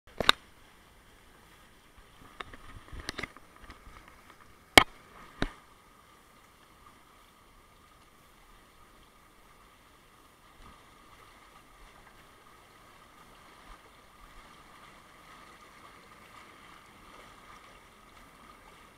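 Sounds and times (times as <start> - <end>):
hot tub jets bubbling: 0.1 - 18.9.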